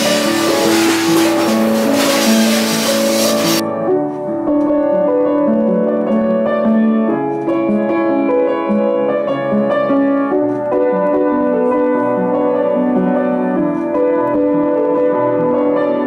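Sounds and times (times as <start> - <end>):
keyboard instrumental music: 0.0 - 16.0.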